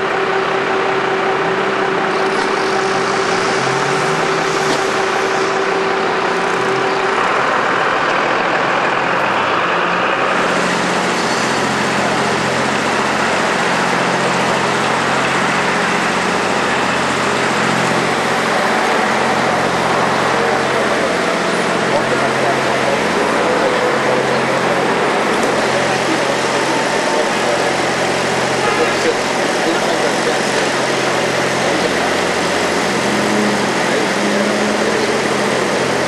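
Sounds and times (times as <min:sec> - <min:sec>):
outdoor noise: 0:00.0 - 0:36.0
steady hum: 0:00.0 - 0:36.0
vehicle engines idling: 0:00.0 - 0:36.0.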